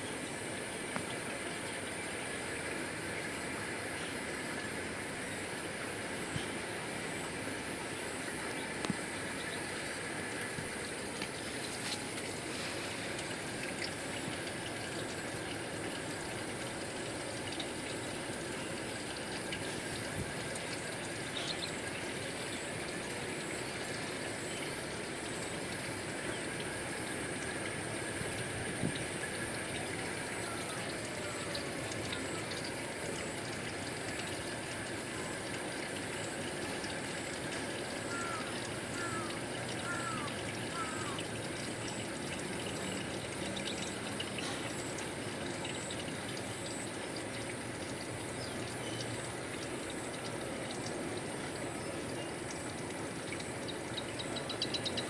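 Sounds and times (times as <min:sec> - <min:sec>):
water running and trickling: 0:00.0 - 0:55.0.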